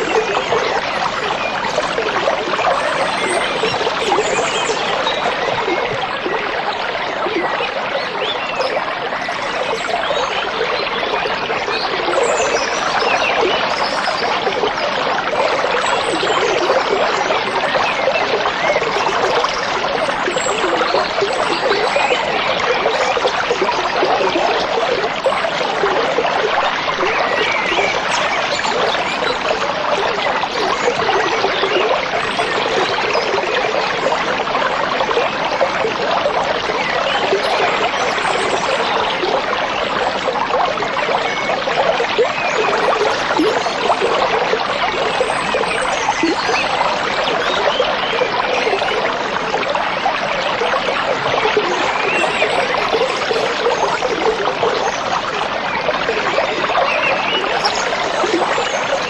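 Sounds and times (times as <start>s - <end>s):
stream trickling and babbling: 0.0s - 59.0s.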